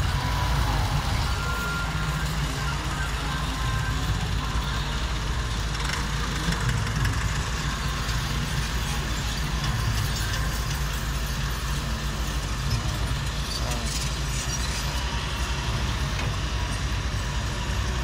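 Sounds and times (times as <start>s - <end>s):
excavator engine idling: 0.0s - 18.0s
tractor engine under load: 0.0s - 18.0s.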